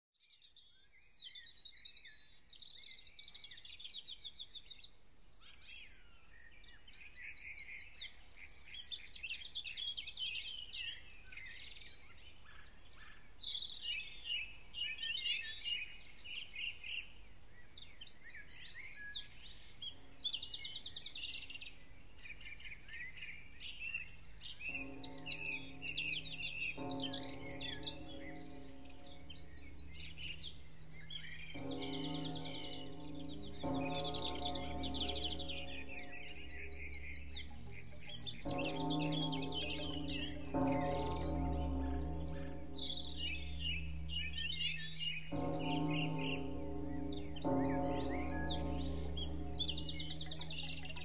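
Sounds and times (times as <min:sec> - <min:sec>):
songbirds singing and chirping: 0:00.2 - 0:51.0
soft sustained music tones: 0:05.1 - 0:51.0.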